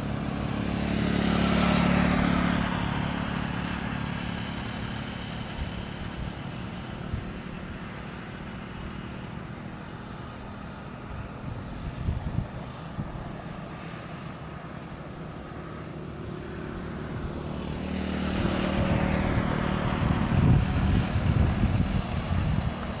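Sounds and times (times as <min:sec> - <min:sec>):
diesel truck passing by: 0:00.0 - 0:23.0.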